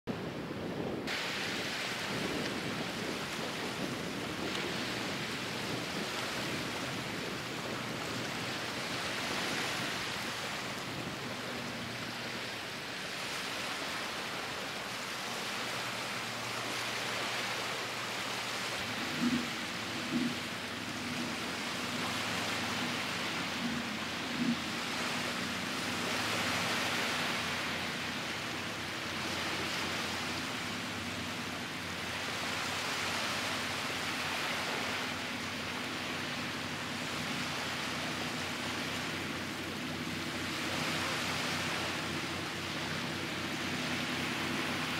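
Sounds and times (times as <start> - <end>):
water on beach: 0.0 - 44.9
wind: 0.0 - 44.9.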